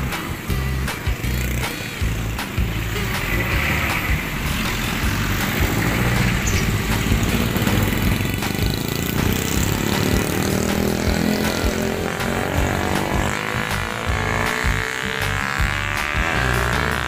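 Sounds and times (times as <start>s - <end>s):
engine rising in pitch: 0.0s - 17.0s
vehicle engines running: 0.0s - 17.0s.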